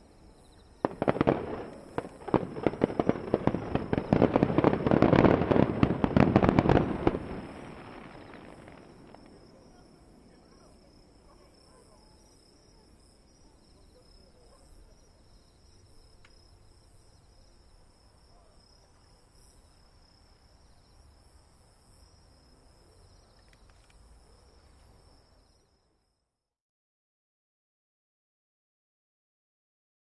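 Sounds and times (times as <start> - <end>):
night insects trilling: 0.0 - 26.2
rapid insect chirping: 0.0 - 26.3.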